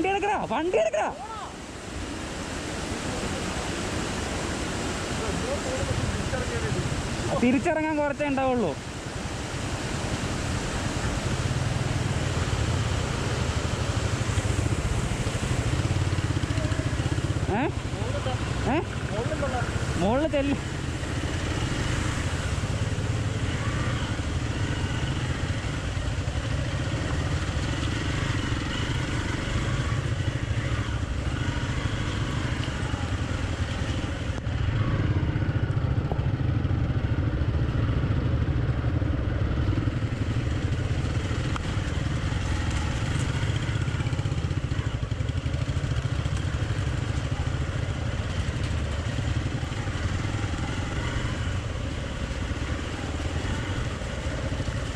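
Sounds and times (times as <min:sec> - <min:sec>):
motorcycle engine running: 0:09.0 - 0:54.9.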